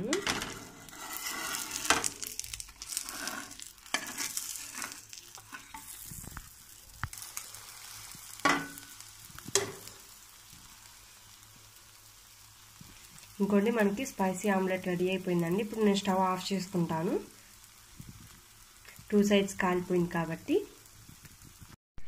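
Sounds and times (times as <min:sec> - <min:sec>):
omelet sizzling in a pan: 0:00.0 - 0:21.8.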